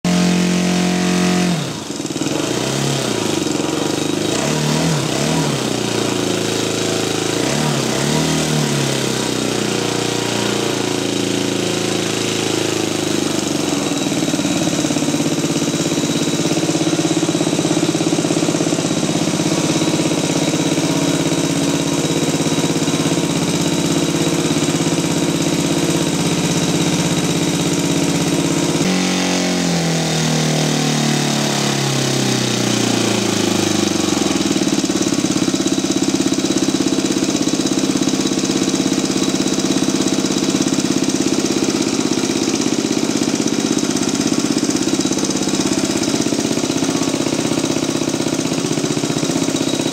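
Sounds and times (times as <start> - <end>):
gas engine running: 0.0 - 49.9.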